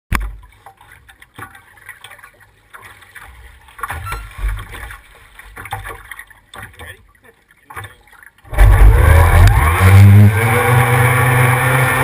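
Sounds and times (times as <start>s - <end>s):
water lapping against wooden hull: 0.1s - 12.0s.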